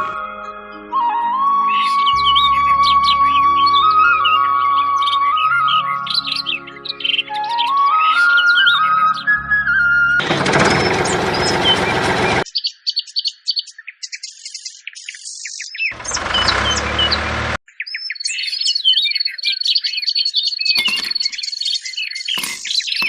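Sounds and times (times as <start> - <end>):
small birds chirping: 1.7 - 9.3, 10.6 - 23.0.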